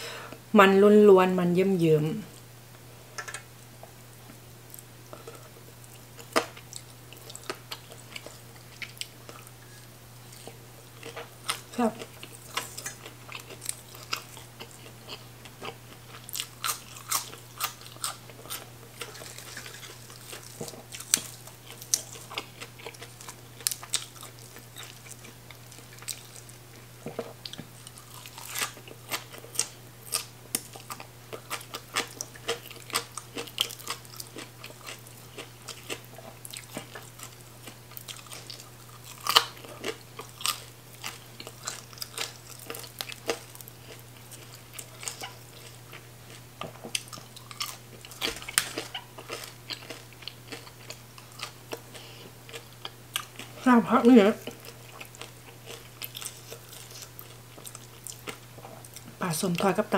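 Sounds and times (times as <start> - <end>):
crunchy chewing: 4.7 - 53.6, 54.4 - 59.1.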